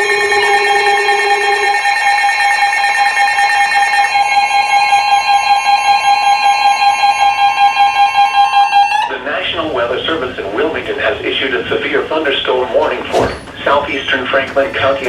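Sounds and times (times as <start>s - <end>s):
weather radio alert alarms: 0.0s - 15.0s.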